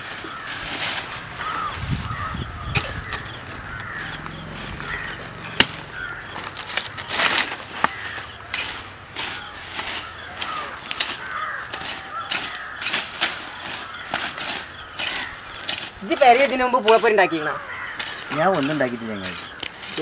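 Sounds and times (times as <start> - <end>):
crows cawing: 0.0 - 20.0.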